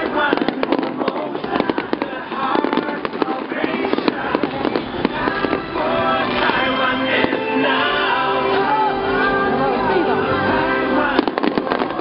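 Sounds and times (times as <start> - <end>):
fireworks bangs and crackles: 0.0 - 12.0
voices: 0.0 - 12.0.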